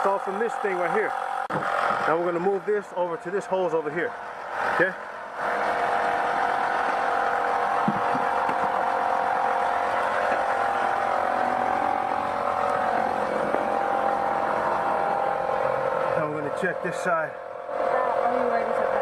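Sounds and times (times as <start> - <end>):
smoke machine humming and hissing: 0.0 - 19.0.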